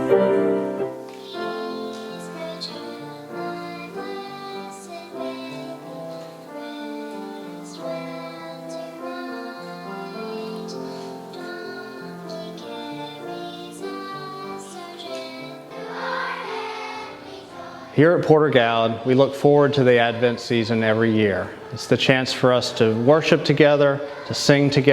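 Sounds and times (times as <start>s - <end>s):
held instrumental notes: 0.0s - 24.9s
high voices singing: 0.0s - 24.9s.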